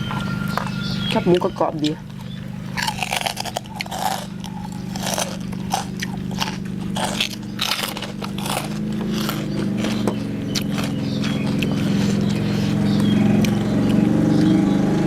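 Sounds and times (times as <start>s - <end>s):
crunchy chewing: 0.0s - 15.0s
steady low hum: 0.0s - 15.0s.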